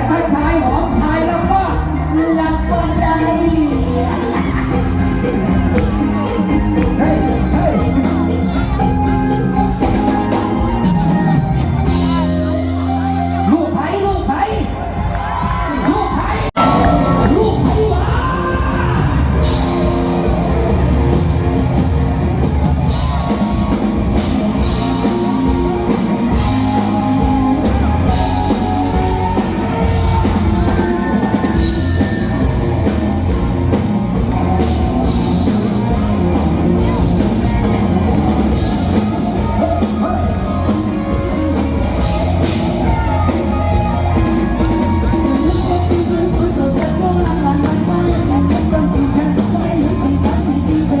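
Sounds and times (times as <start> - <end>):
drum kit beat: 0.0 - 13.2, 14.1 - 51.0
live band music: 0.0 - 51.0.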